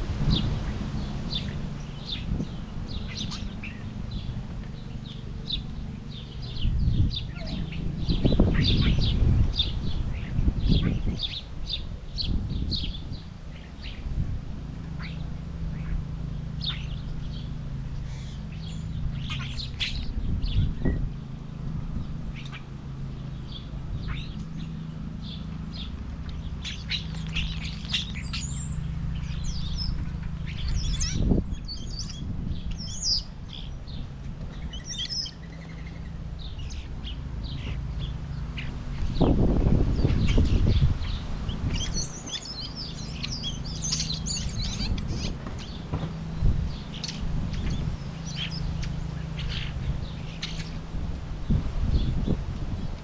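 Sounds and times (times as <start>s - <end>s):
small birds chirping: 0.0s - 53.0s
steady low rumble: 0.0s - 53.0s.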